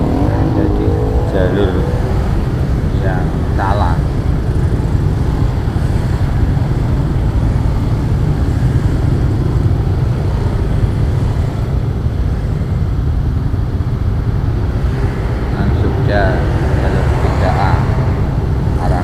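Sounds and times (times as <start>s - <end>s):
motorcycle engine running: 0.0s - 15.8s
road noise: 0.0s - 19.0s
wind noise: 0.0s - 19.0s.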